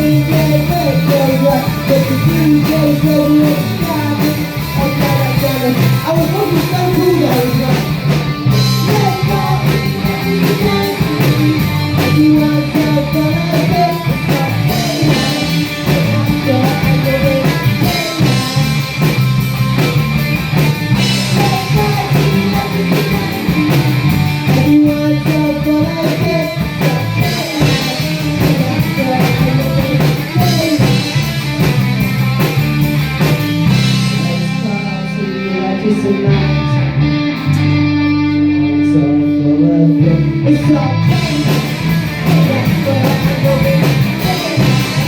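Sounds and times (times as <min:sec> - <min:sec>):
drum kit: 0:00.0 - 0:38.2, 0:40.0 - 0:45.0
electric guitars ringing: 0:00.0 - 0:45.0
live rock band playing: 0:00.0 - 0:45.0.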